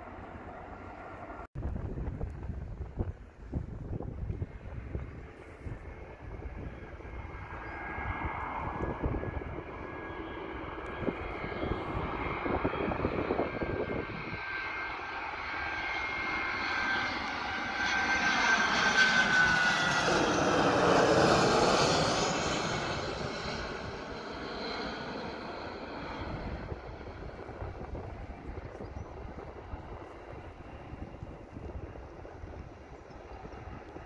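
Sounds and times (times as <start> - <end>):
jet airliner whining and rumbling: 0.0 - 34.0.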